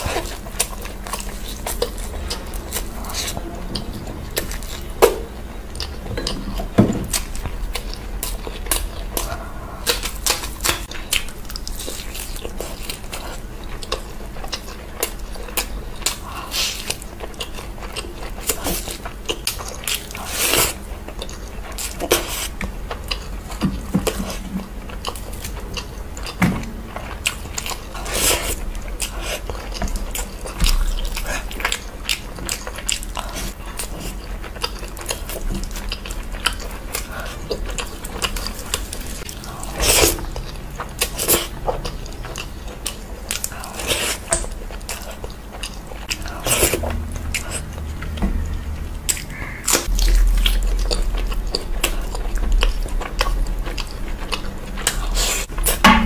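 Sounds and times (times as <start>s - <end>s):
close chewing and mouth smacks: 0.0s - 55.8s.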